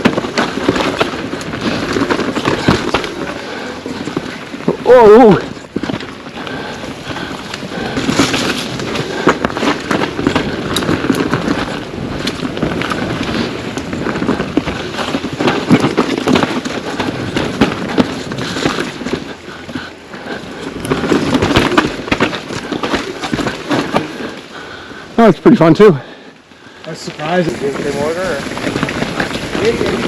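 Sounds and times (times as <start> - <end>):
bike rattling and clattering: 0.0 - 30.0
bike tyres on dirt and rock: 0.0 - 30.0.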